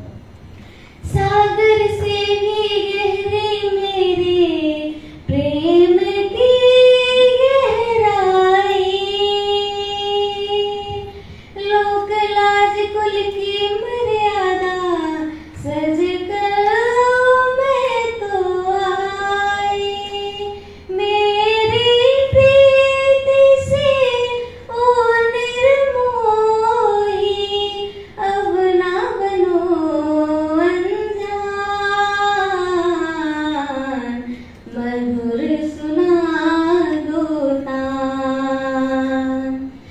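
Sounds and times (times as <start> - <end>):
girl singing: 1.0 - 39.9.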